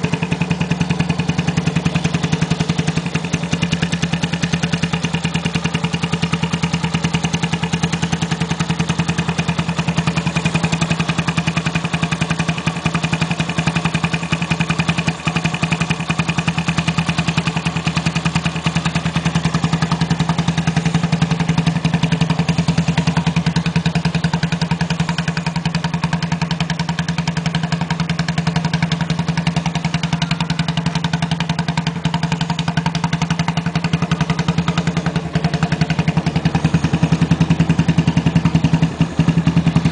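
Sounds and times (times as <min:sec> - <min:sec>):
motorcycle exhaust idling: 0:00.0 - 0:39.9.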